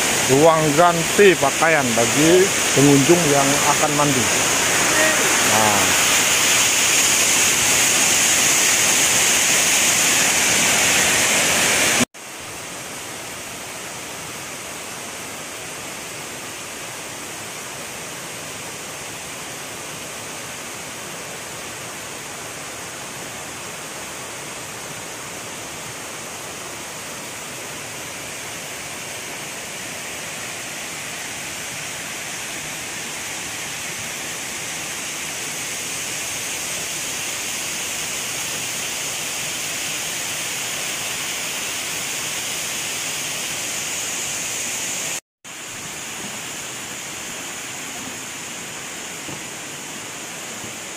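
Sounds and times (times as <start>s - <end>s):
rocky stream rapids: 0.0s - 50.9s
waterfall rushing: 0.0s - 50.9s.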